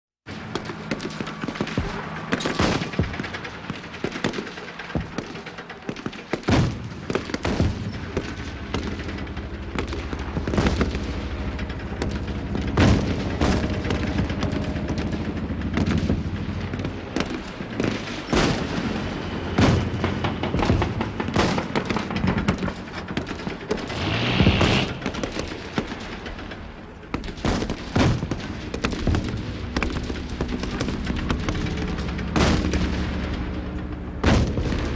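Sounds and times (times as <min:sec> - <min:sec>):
continuous low rumble: 0:00.3 - 0:34.9
rifle and machine-gun fire: 0:00.3 - 0:34.9.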